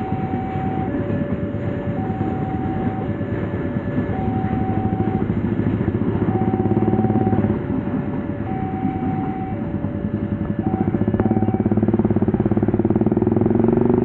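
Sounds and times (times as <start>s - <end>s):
level-crossing warning alarm: 0.0s - 13.8s.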